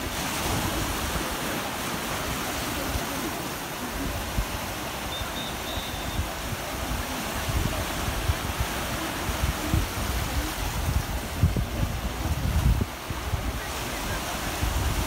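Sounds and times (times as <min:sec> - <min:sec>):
sea waves splashing on rocks: 0:00.0 - 0:15.0
wind buffeting microphone: 0:00.0 - 0:15.0.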